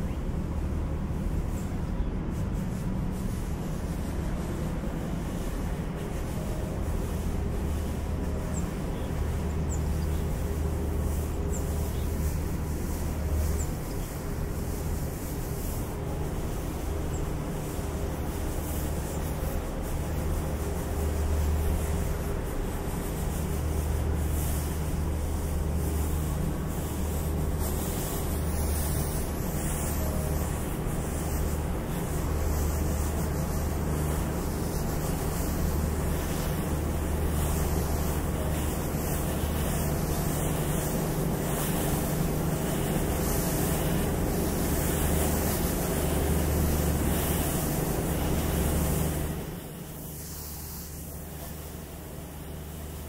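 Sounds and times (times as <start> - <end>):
low mechanical hum: 0.0 - 53.0
ventilation fans rushing: 0.0 - 53.0.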